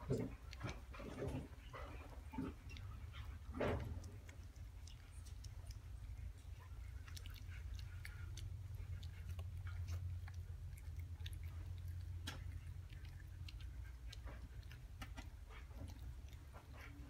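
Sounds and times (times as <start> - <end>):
puppy eating from plastic bowl: 0.0 - 17.0
steady low hum: 0.0 - 17.0.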